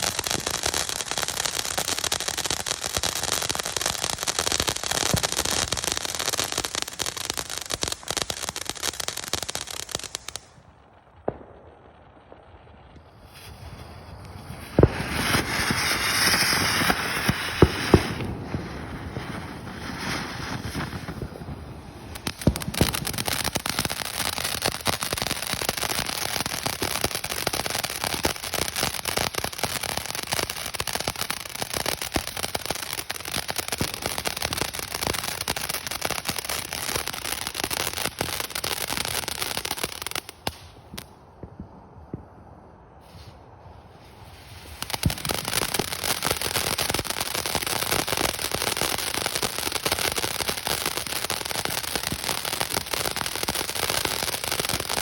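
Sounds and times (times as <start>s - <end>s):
firework crackling: 0.0s - 42.3s, 42.9s - 55.0s
firework hissing and popping: 0.0s - 42.3s, 42.9s - 55.0s.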